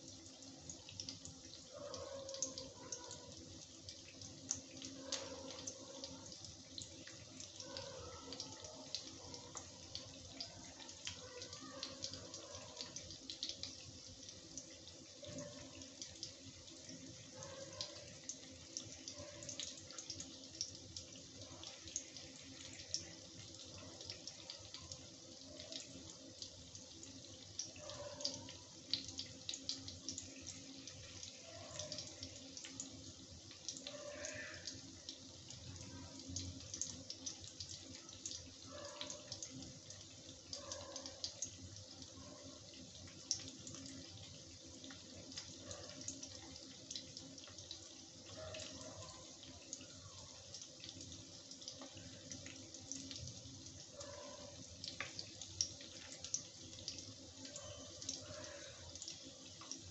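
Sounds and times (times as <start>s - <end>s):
cheese sizzling in oil: 0.0s - 1.8s, 2.4s - 27.9s, 28.5s - 59.9s.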